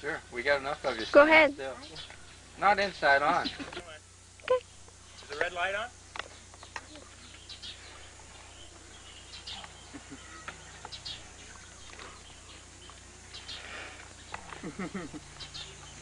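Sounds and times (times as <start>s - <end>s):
faint outdoor background: 0.0s - 16.0s
steady low hum: 0.0s - 16.0s.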